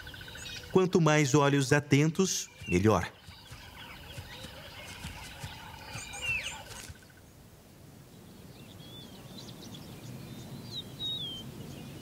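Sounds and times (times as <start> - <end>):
small birds chirping: 0.0 - 7.4, 8.0 - 12.0.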